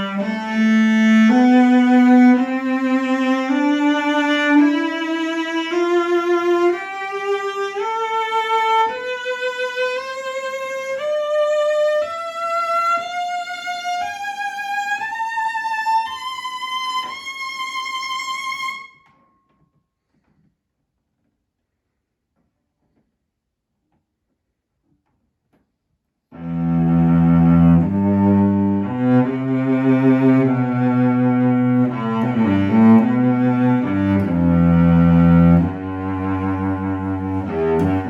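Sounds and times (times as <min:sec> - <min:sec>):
cello bowed scale with vibrato: 0:00.0 - 0:19.2, 0:26.4 - 0:38.0.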